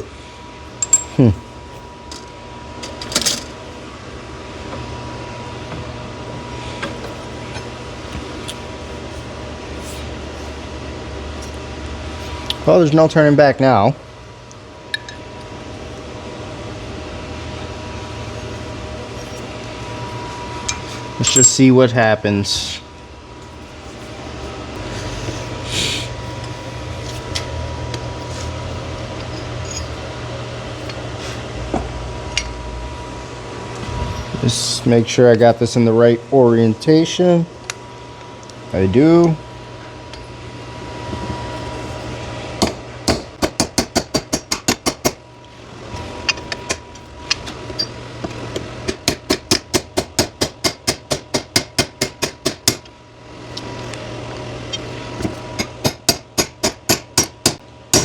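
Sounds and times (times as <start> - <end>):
mechanical hum with thin tone: 0.0 - 58.0.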